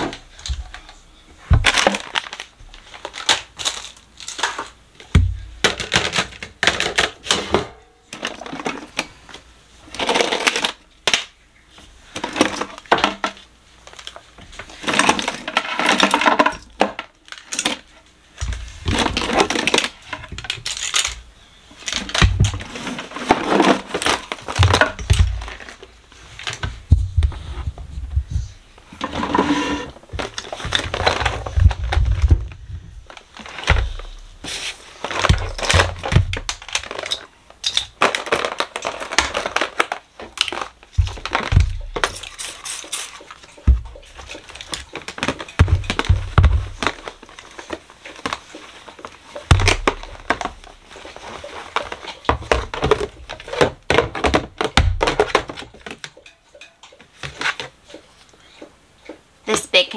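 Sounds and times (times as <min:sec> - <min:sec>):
plastic baskets knocking and clicking: 0:00.0 - 0:59.7.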